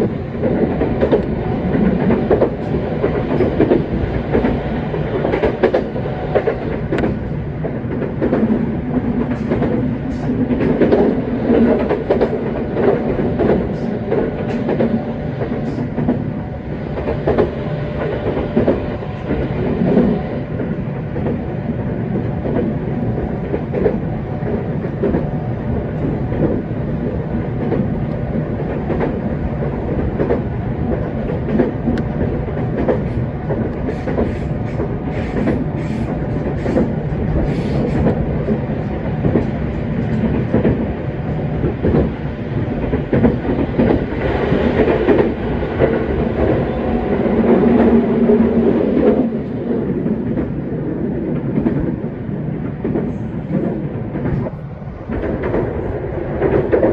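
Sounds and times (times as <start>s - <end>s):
loud train hum: 0.0s - 56.9s
train running rumble: 0.0s - 56.9s.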